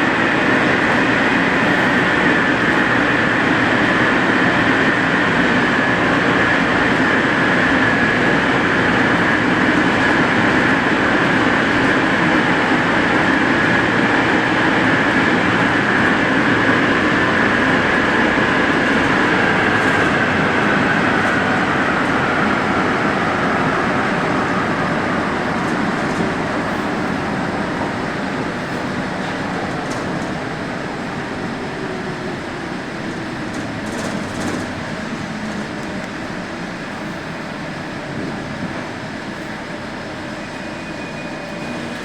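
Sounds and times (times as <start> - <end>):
metro train whine: 0.0 - 42.0
train rolling noise: 0.0 - 42.0.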